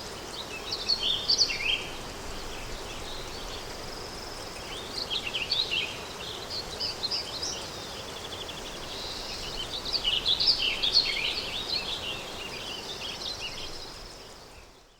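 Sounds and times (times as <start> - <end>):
small birds chirping: 0.0 - 14.9
wind hiss: 0.0 - 14.9.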